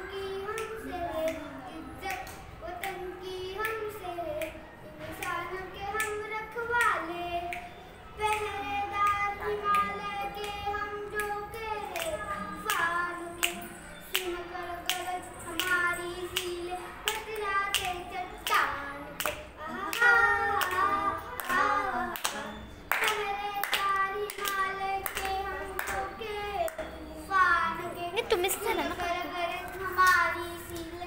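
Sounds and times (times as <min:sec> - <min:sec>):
boy singing: 0:00.0 - 0:31.0
hand claps: 0:02.0 - 0:03.0, 0:03.6 - 0:05.4, 0:06.0 - 0:10.5, 0:11.1 - 0:26.9, 0:28.8 - 0:31.0.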